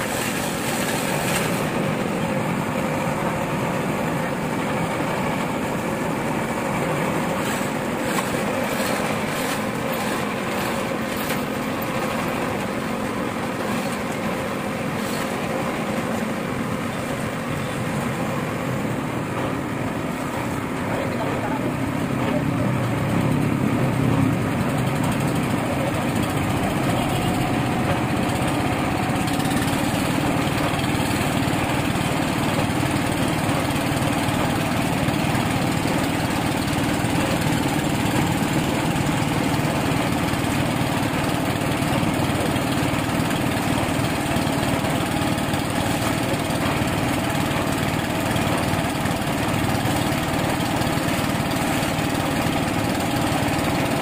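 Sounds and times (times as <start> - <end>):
small engine running: 0.0 - 18.4, 20.9 - 54.0.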